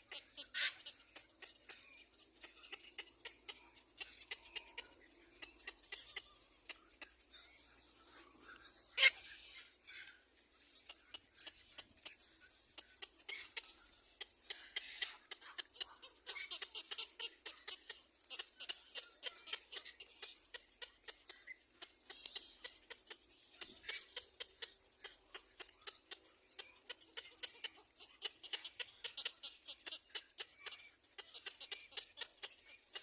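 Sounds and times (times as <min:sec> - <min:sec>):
baby birds begging calls: 0:00.0 - 0:33.0.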